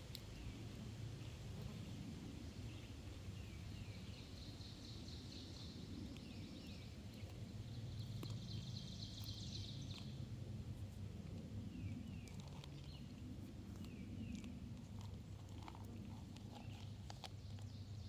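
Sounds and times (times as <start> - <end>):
songbirds singing: 0.2 - 18.0.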